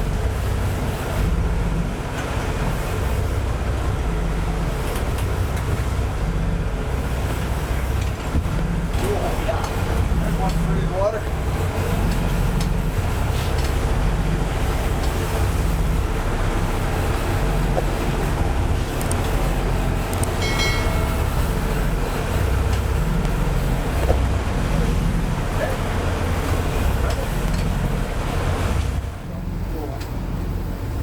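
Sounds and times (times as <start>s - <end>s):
boat engine droning: 0.0s - 31.0s
water noise: 0.0s - 31.0s
wind: 0.0s - 31.0s.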